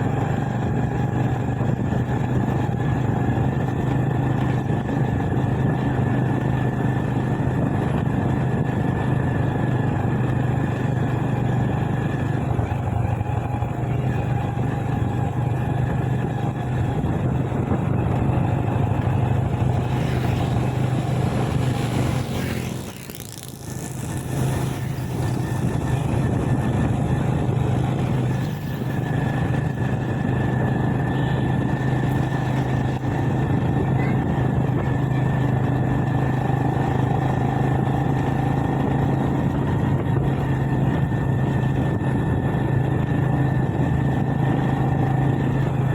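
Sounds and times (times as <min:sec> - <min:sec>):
motorbike engine cruising: 0:00.0 - 0:45.9
road and wind noise: 0:00.0 - 0:45.9.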